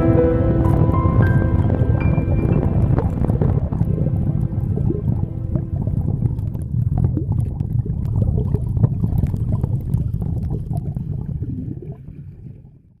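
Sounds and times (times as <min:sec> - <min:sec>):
water churning and splashing: 0:00.4 - 0:12.8.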